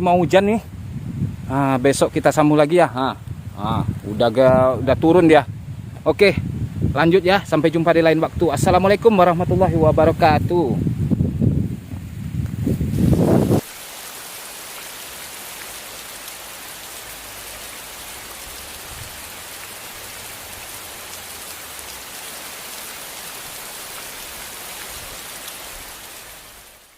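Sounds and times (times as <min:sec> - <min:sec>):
rain falling steadily: 0:00.0 - 0:26.9.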